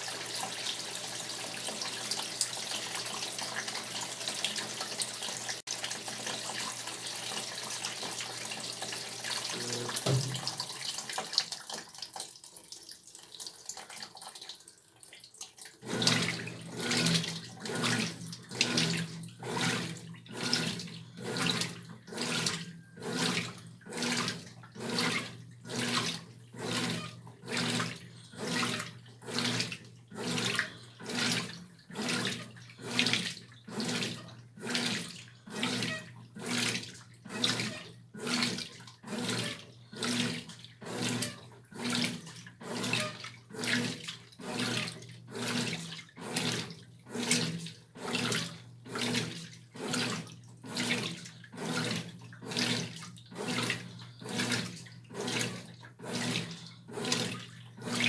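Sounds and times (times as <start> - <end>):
washing machine motor hum: 0.0 - 11.2, 15.8 - 58.0
washing machine water swishing: 0.0 - 58.0.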